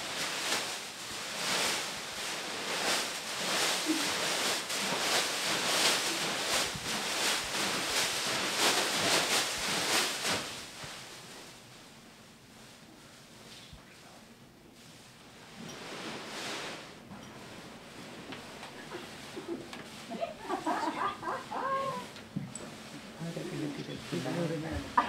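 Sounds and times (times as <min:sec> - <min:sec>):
plastic bags rustling: 0:00.0 - 0:13.6, 0:14.7 - 0:25.0.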